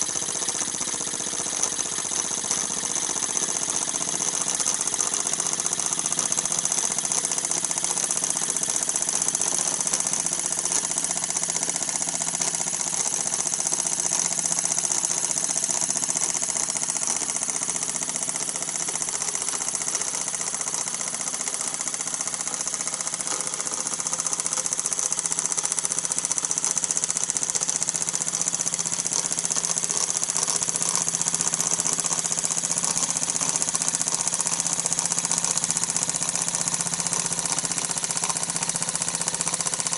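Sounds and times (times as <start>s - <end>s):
toy steam engine chuffing clatter: 0.0s - 39.9s.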